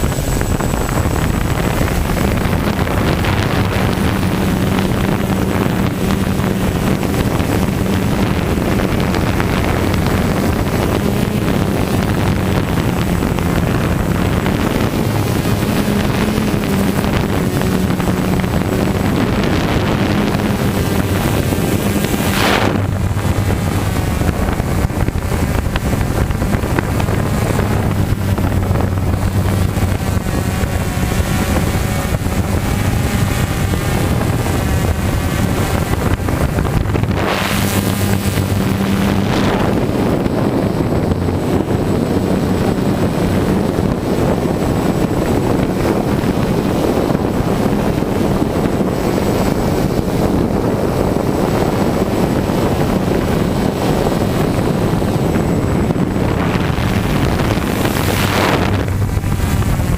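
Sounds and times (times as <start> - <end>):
quadcopter motors humming: 0.0 - 59.9
wind noise on microphone: 0.0 - 59.9.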